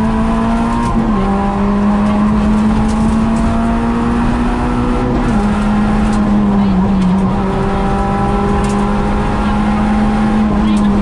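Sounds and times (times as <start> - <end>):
car engine revving high: 0.0 - 11.0.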